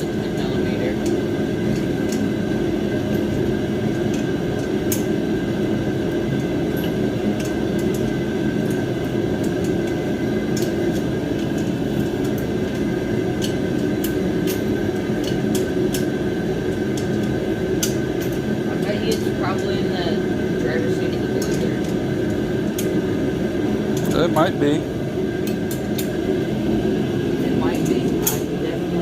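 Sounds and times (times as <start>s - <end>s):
propane heater running: 0.0s - 29.0s.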